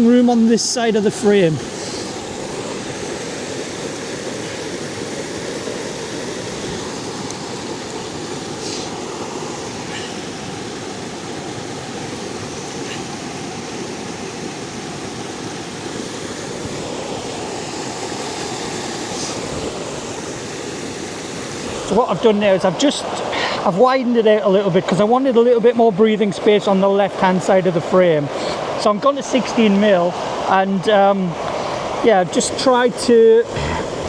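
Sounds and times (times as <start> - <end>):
waterfall rushing: 0.0 - 25.5, 26.2 - 34.0.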